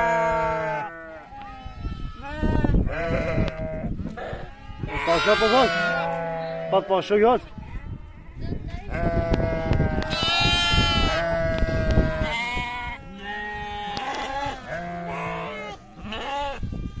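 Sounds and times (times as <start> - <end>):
sheep bleating: 0.0 - 7.0, 8.8 - 17.0.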